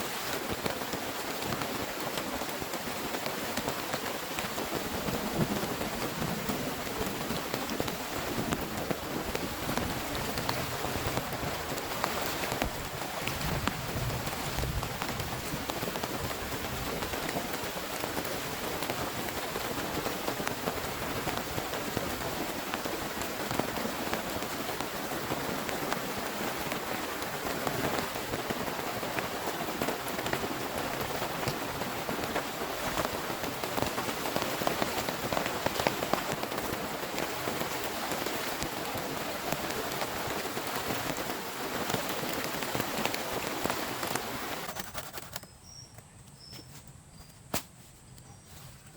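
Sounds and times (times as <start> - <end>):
raindrops tapping a surface: 0.0 - 44.7
rain falling: 0.0 - 44.8.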